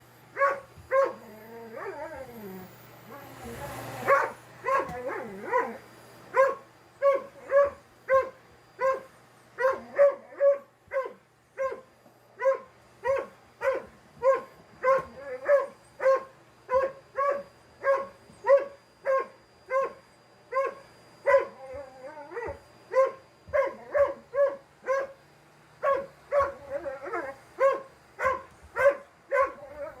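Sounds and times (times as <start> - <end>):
dog barking: 0.4 - 1.2, 4.0 - 21.6, 22.4 - 25.2, 25.8 - 26.7, 27.6 - 30.0.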